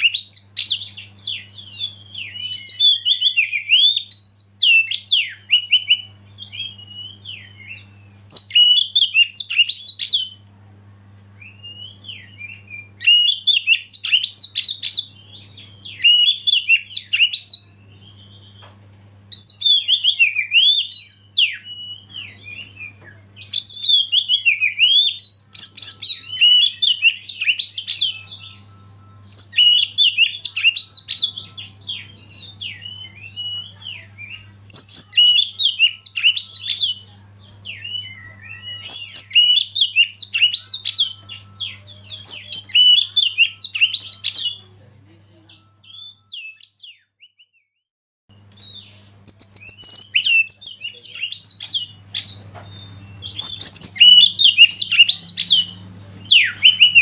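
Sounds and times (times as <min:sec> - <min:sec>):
bird singing whistled phrases: 0:00.0 - 0:10.4, 0:11.3 - 0:37.0, 0:37.6 - 0:44.7, 0:48.3 - 0:57.0
faint low hum: 0:00.0 - 0:47.0.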